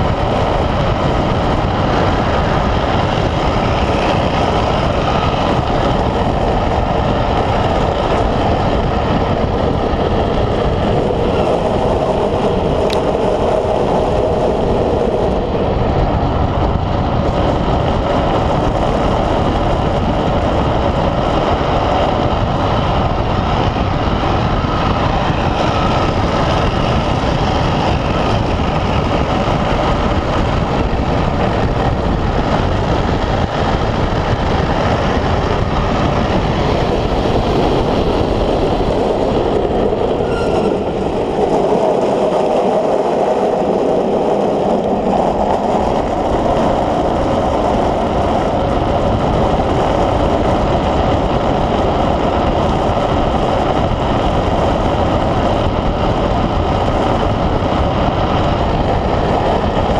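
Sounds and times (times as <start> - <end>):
rushing wind: 0.0 - 59.9
wheels rolling on asphalt: 0.0 - 59.9.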